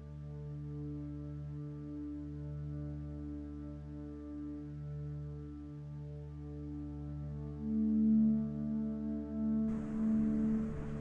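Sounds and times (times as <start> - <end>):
ambient music with held tones: 0.0 - 11.0.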